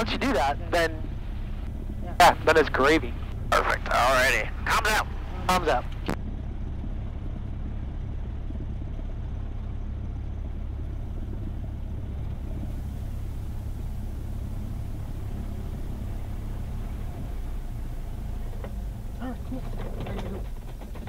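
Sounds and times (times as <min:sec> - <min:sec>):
aircraft engine drone in cabin: 0:00.0 - 0:21.0.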